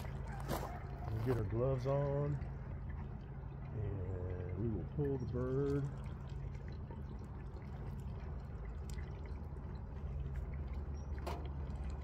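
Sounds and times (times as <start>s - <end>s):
hot oil bubbling and crackling: 0.0s - 12.0s
low steady rumble: 0.0s - 12.0s.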